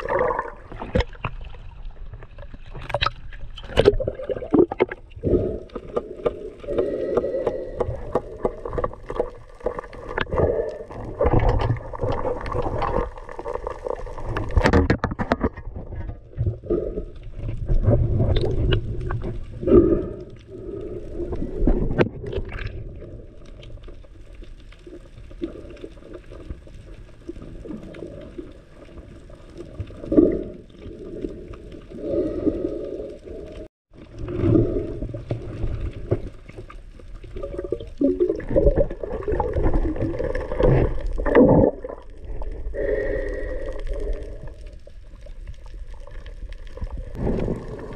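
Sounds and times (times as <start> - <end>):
underwater water rushing and gurgling: 0.0 - 47.9.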